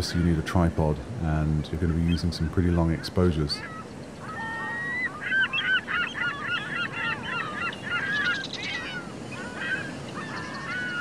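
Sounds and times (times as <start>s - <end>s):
low background rush: 0.0s - 11.0s
shore birds calling: 0.0s - 11.0s.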